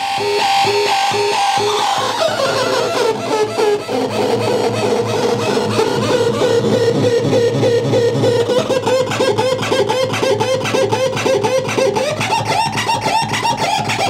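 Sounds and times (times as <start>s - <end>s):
rapid electronic chirps: 0.0s - 14.0s.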